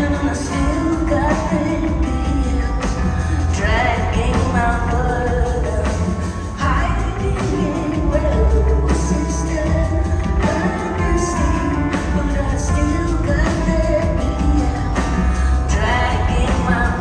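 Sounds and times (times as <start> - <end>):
keyboard-led band playing: 0.0 - 17.0
woman singing: 0.0 - 17.0.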